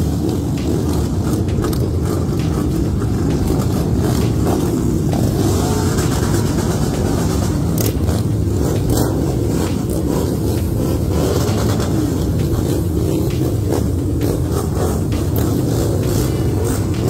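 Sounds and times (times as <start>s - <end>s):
motorcycles riding off: 0.0s - 17.0s.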